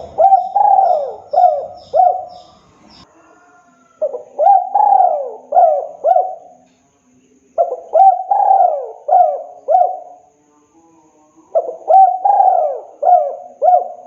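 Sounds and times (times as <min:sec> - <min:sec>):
dove cooing: 0:00.0 - 0:06.6, 0:07.6 - 0:10.2, 0:11.5 - 0:14.0.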